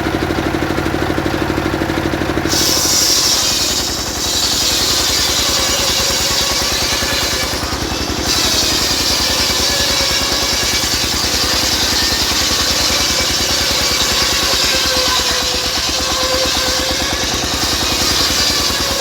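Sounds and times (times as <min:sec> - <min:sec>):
engine pulsing: 0:00.0 - 0:19.0
circular saw hissing: 0:02.5 - 0:19.0.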